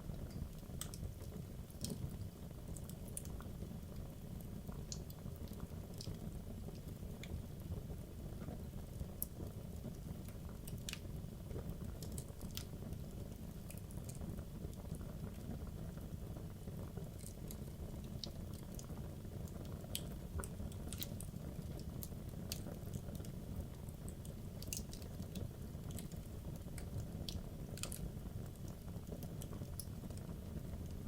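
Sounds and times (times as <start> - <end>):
wood crackling and popping: 0.0 - 7.6, 8.4 - 31.0
low rumble of flames: 0.0 - 31.0.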